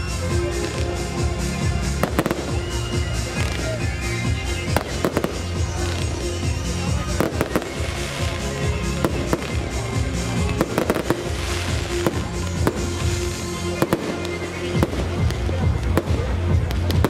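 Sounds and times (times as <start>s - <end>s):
fireworks bangs with crackle: 0.0s - 17.0s
loud music: 0.0s - 17.0s.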